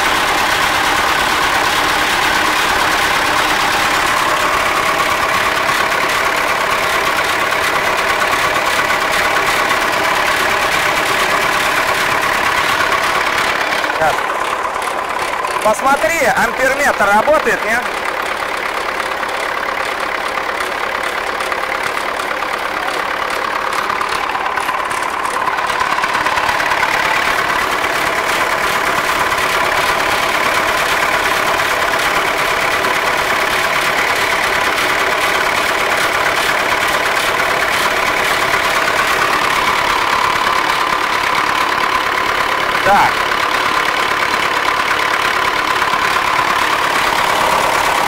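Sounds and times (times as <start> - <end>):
diesel tractor engine idling: 0.0 - 48.0.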